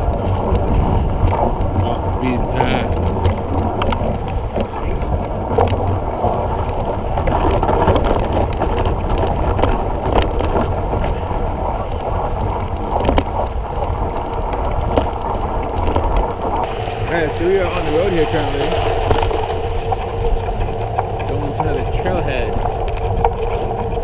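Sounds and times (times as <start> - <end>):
bike rattling clicks and knocks: 0.0 - 24.0
tyres rumbling through snow: 0.0 - 24.0
wind on microphone: 0.0 - 24.0.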